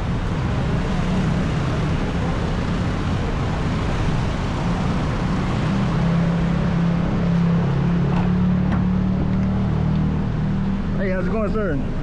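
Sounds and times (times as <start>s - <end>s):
street traffic engine hum: 0.0s - 12.0s.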